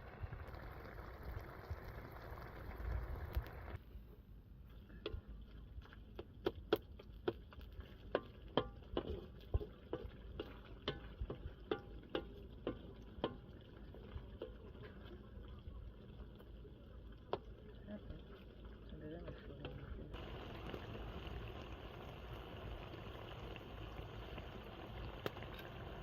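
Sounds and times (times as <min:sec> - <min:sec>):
faint steady background noise: 0:00.0 - 0:26.0.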